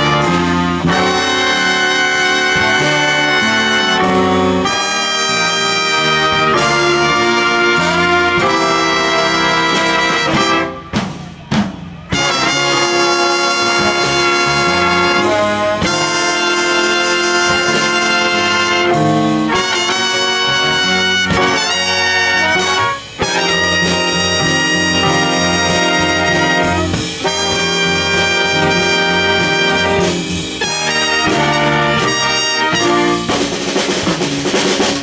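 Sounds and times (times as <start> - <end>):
big band horns playing funk: 0.0 - 35.0.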